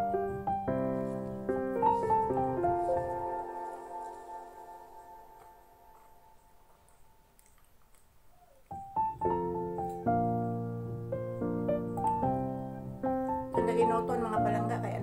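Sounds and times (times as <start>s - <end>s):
piano music: 0.0s - 7.4s, 8.6s - 15.0s.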